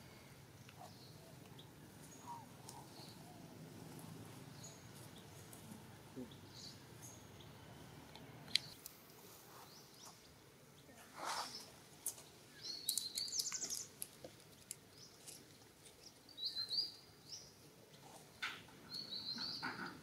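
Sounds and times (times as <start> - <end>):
birds chirping: 0.0 - 8.8, 9.4 - 20.0.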